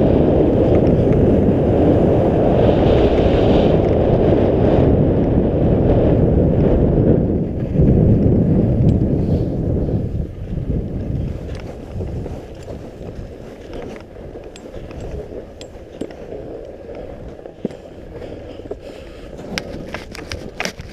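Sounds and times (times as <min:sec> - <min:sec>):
skis scraping over snow: 0:00.0 - 0:04.9, 0:06.9 - 0:20.9
wind buffeting microphone: 0:00.0 - 0:20.9.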